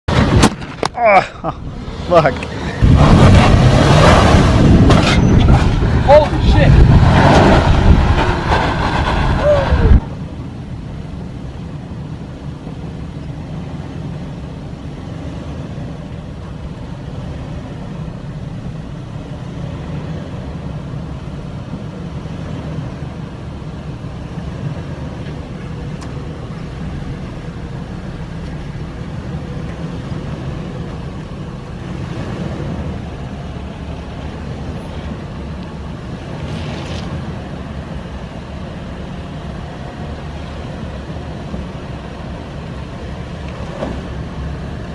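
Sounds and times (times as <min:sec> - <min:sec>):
truck engine driving off-road: 0:00.0 - 0:44.9.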